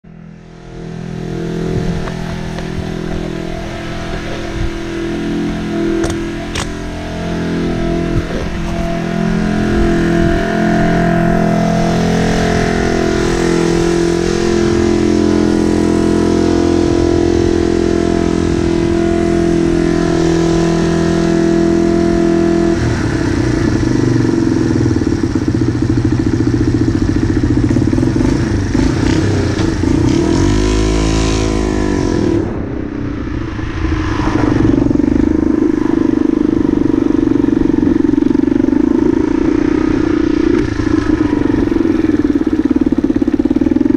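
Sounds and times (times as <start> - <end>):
motorcycle engine at low revs: 0.0 - 43.9.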